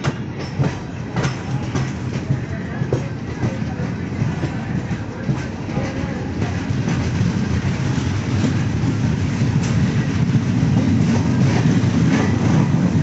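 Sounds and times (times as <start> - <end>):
train coaches rumbling: 0.0 - 13.0.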